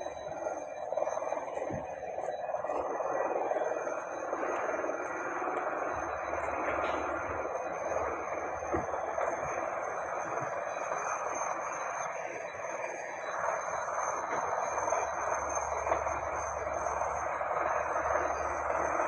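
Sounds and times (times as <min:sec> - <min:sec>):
faint high-pitched whines: 0:00.0 - 0:19.0.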